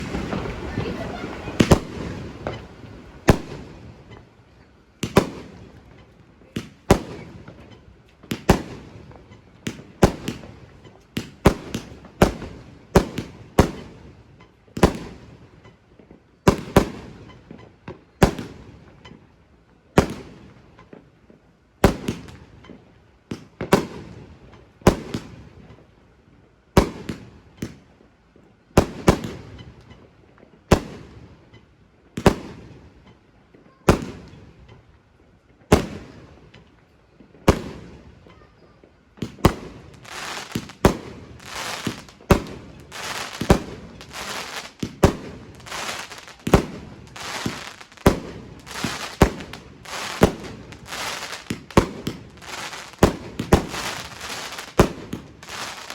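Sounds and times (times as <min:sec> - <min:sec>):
fireworks bangs: 0:00.0 - 0:19.0, 0:28.8 - 0:34.9, 0:35.5 - 0:55.9.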